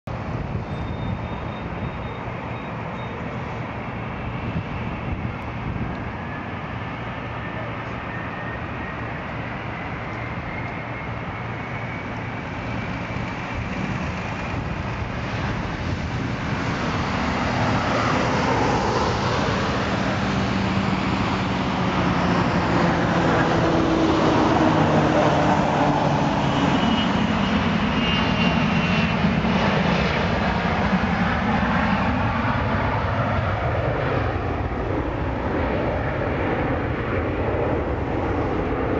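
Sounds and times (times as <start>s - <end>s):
jet engines at takeoff: 0.1s - 38.9s.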